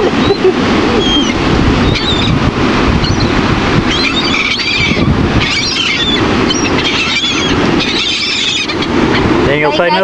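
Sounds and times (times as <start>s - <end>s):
seagulls crying: 0.0s - 2.4s, 3.0s - 10.0s
wind rumble on microphone: 0.0s - 10.0s.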